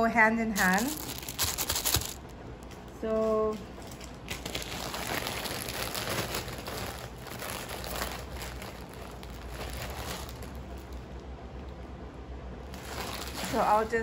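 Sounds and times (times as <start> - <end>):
plastic packaging crinkling: 0.4 - 11.3, 12.6 - 14.0.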